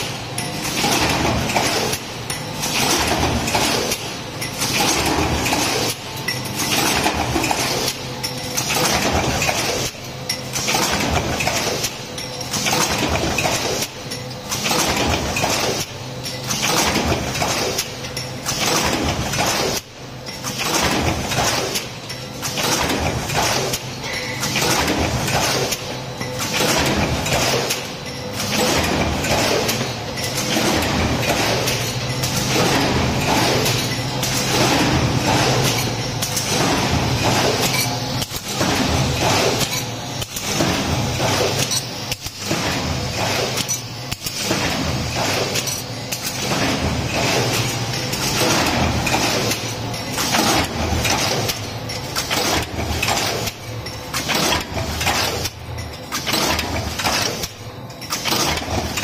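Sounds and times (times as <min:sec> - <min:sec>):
machine hum: 0:00.0 - 0:59.0
metallic clattering of stamping press: 0:00.0 - 0:59.0.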